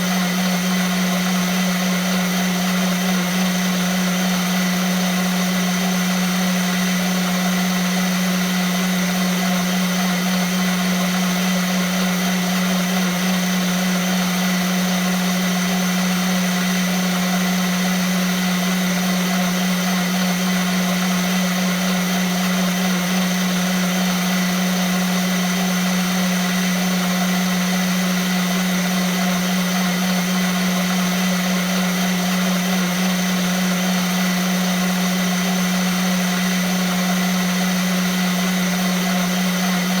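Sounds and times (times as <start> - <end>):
blender motor running: 0.0 - 40.0.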